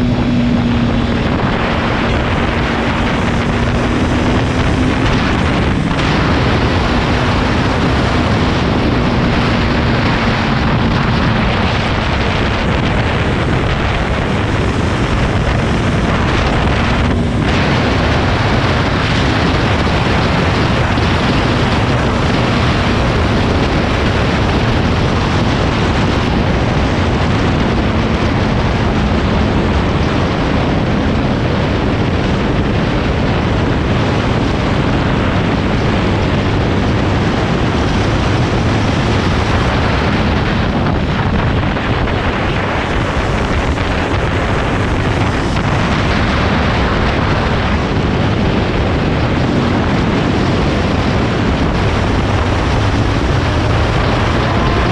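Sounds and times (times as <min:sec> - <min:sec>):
motorcycle engine: 0:00.0 - 0:54.9
wind rushing over microphone: 0:00.0 - 0:54.9.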